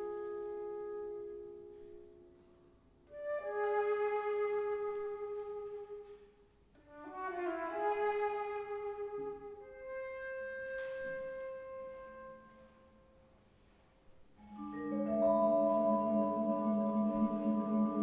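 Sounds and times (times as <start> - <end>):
flute and clarinet sustained notes: 0.0 - 13.7, 14.4 - 18.0.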